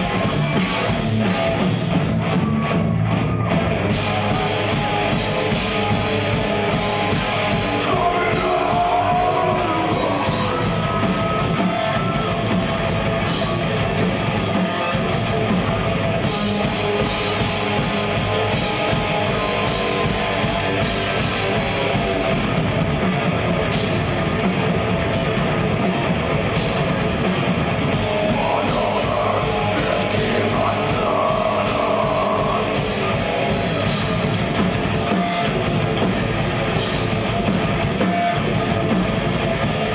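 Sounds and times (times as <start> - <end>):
death metal band playing: 0.0 - 39.9.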